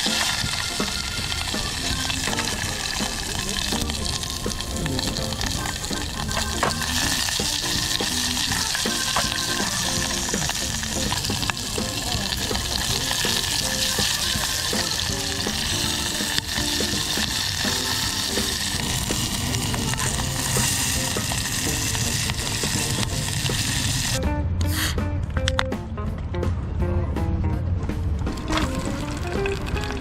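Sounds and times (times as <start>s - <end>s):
steady hissing noise: 0.0s - 24.2s.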